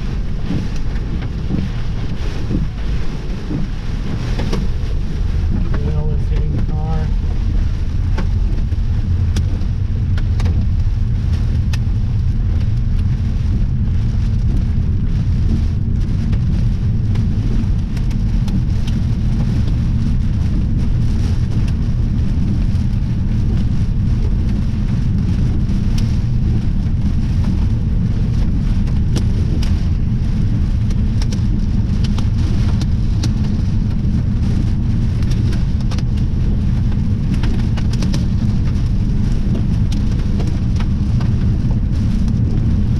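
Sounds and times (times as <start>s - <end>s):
heavy rain pattering: 0.0s - 42.9s
wind buffeting microphone: 0.0s - 42.9s.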